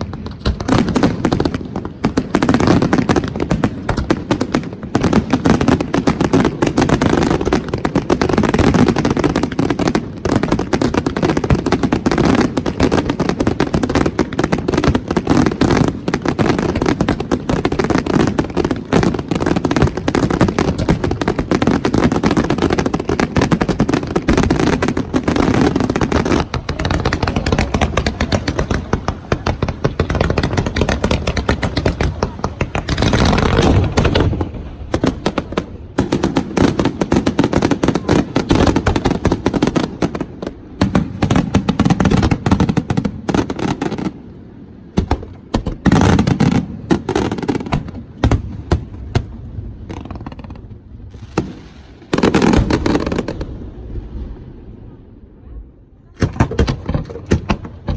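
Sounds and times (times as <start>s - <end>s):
fireworks bangs and crackling: 0.0s - 57.9s
loud fireworks booms: 0.0s - 57.9s.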